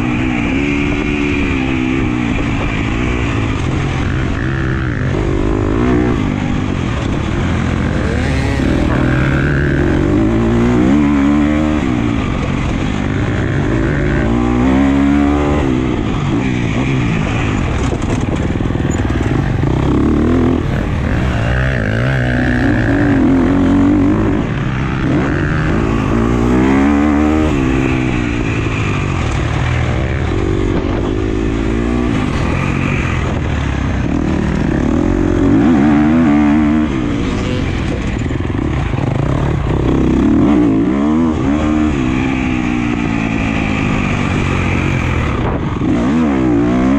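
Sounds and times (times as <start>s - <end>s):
motocross bike engine revving: 0.0s - 46.9s.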